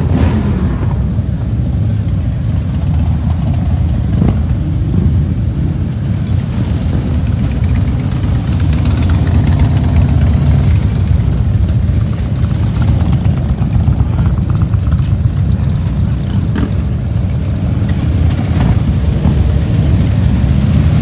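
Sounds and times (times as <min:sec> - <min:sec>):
motorcycles rumbling past: 0:00.0 - 0:21.0.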